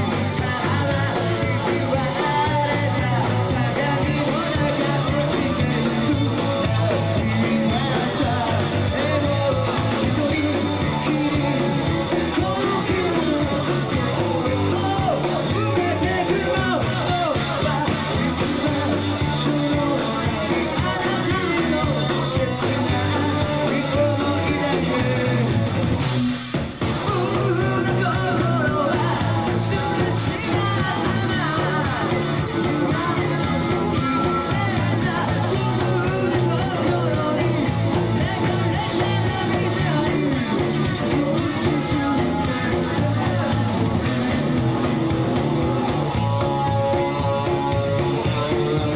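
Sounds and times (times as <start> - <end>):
person singing: 0.0 - 25.8, 26.9 - 48.9
bass guitar: 0.0 - 48.9
drums: 0.0 - 48.9
electric guitar: 0.0 - 48.9.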